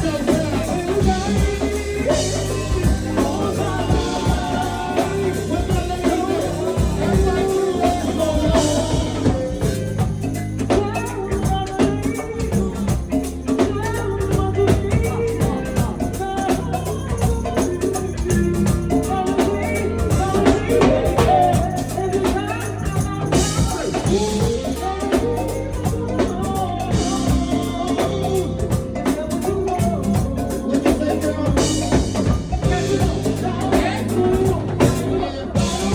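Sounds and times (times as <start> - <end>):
drum kit beat: 0.0 - 35.9
live band playing jazz: 0.0 - 35.9
low bass notes: 0.0 - 35.9.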